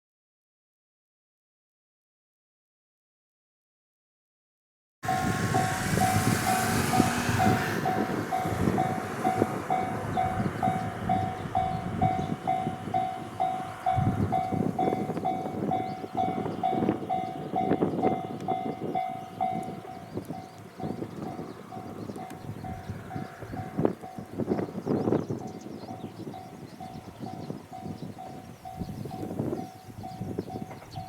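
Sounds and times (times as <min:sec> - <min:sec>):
level-crossing alarm bell ringing: 0:05.0 - 0:24.4, 0:25.5 - 0:31.0
diesel railcar rumble and wheel knocks: 0:05.1 - 0:31.0.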